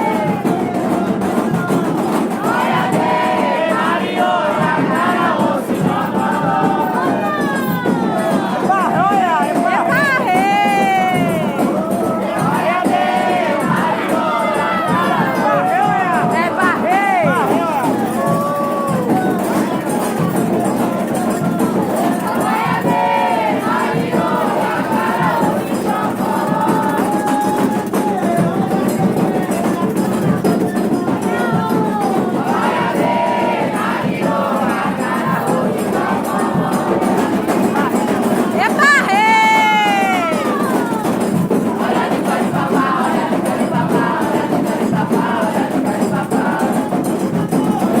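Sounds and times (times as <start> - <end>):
crowd chanting to music: 0.0 - 48.0.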